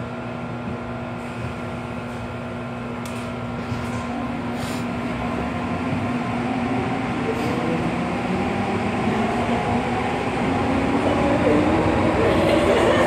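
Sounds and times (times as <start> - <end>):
train motors humming: 0.0 - 13.0.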